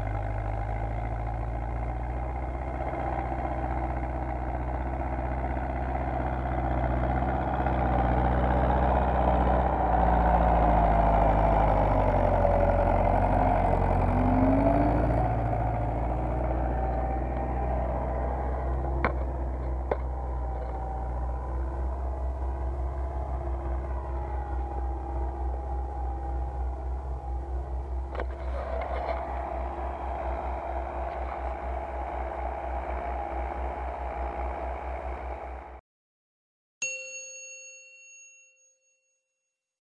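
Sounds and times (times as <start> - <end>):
tractor diesel engine running: 0.0 - 35.8.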